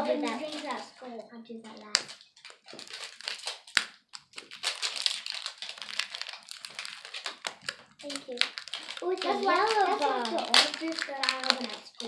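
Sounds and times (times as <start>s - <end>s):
plastic packaging crinkling: 0.0s - 1.0s, 1.7s - 12.0s.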